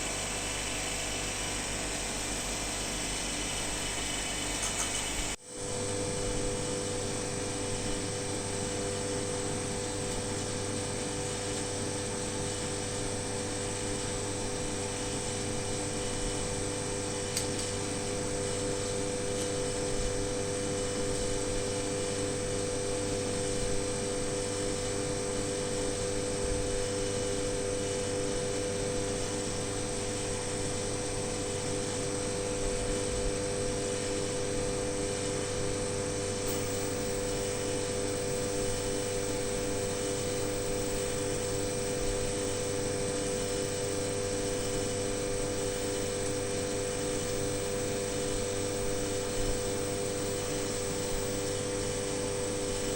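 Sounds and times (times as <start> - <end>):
machine hum with hiss: 0.0 - 52.9.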